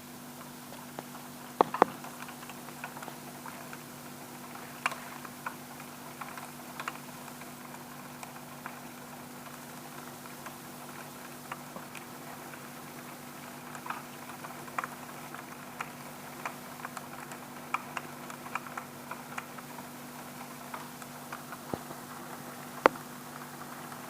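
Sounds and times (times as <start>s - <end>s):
hailstones ticking on window glass: 0.4s - 24.0s.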